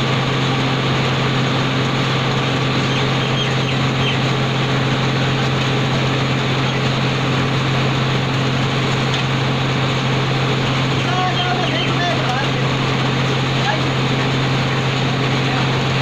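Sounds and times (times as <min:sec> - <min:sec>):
conveyors and rollers running: 0:00.0 - 0:16.0
machine humming: 0:00.0 - 0:16.0.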